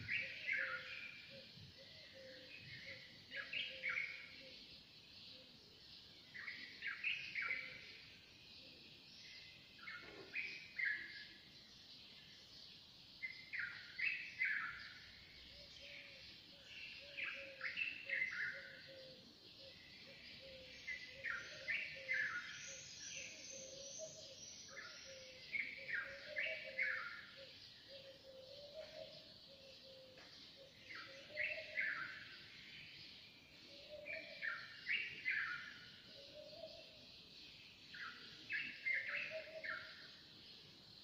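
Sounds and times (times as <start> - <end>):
birds twittering: 0.0 - 41.0.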